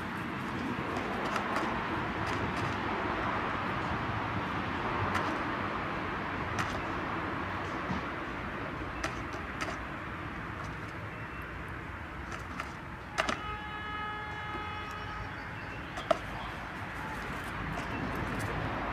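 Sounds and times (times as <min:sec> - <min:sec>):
traffic noise: 0:00.0 - 0:18.9.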